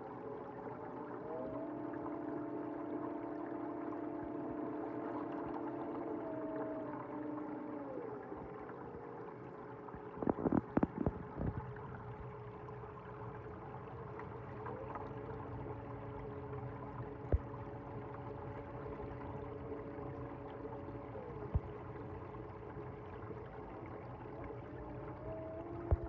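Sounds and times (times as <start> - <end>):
aquarium pumps humming: 0.0 - 26.0
faint water gurgle: 0.0 - 26.0.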